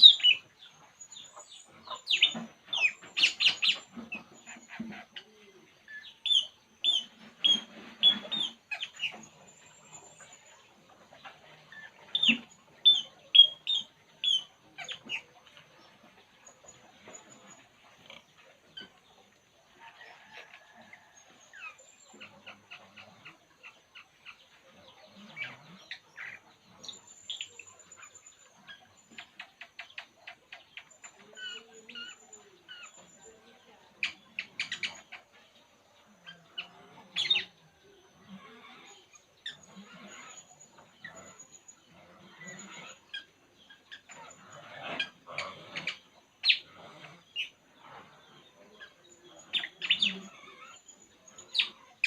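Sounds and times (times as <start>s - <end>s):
songbird chirping: 0.0s - 52.0s.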